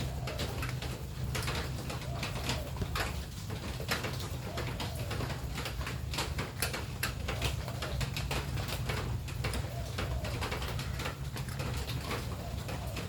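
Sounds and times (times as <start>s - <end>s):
bird cooing softly: 0.0s - 13.0s
rain dripping and pattering: 0.0s - 13.0s.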